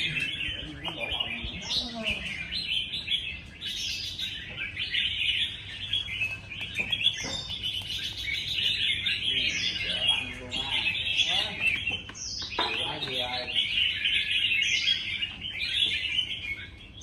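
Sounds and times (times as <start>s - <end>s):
bird chattering song: 0.0s - 17.0s.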